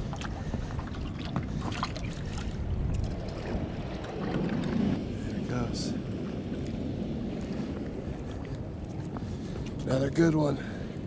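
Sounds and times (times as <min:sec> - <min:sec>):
wind on the microphone: 0:00.0 - 0:11.0.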